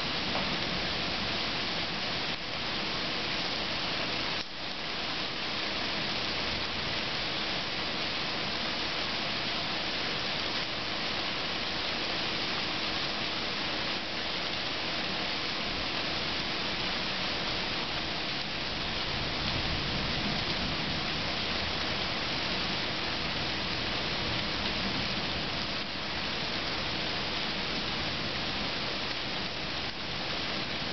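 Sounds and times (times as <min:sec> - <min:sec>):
rain pouring: 0:00.0 - 0:30.9.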